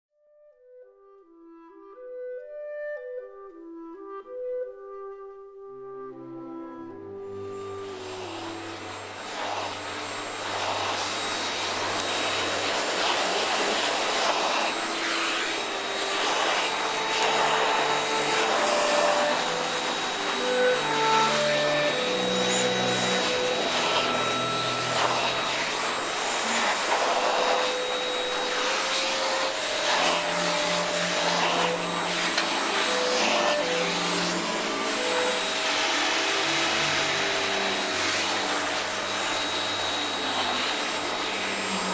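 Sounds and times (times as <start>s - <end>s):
vacuum cleaner running: 6.0s - 41.9s.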